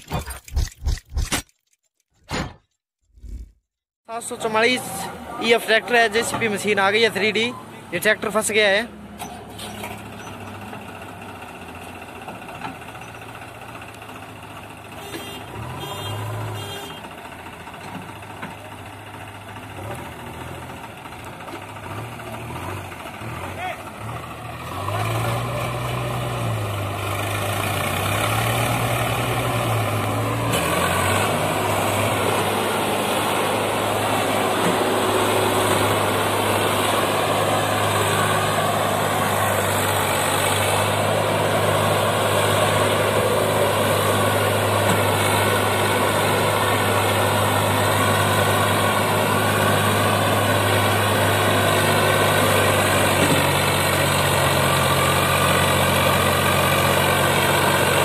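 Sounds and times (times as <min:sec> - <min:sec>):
tractor diesel engine under load: 0:04.1 - 0:58.0.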